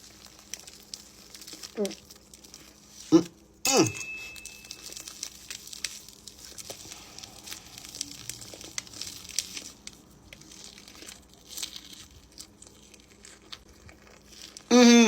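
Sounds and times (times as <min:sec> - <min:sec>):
crunchy chewing: 0:00.0 - 0:03.6, 0:04.4 - 0:14.8.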